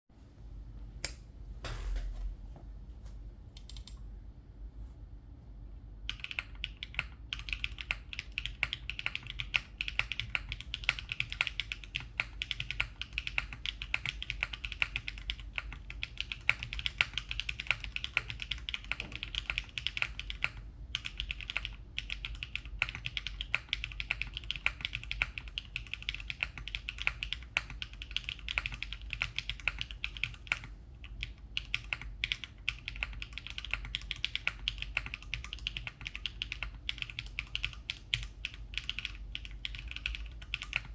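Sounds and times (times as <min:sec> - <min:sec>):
mechanical keyboard typing: 0:03.6 - 0:04.0, 0:06.1 - 0:40.9.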